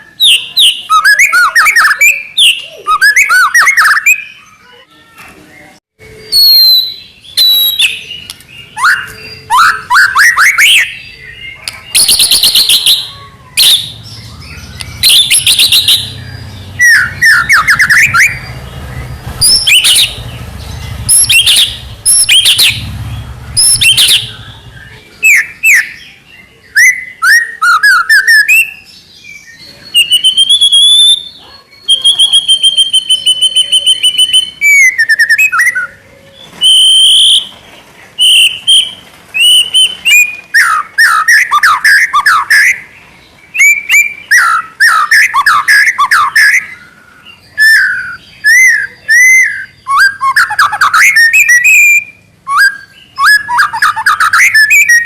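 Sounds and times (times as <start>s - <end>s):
bird singing varied phrases: 0.0s - 55.0s.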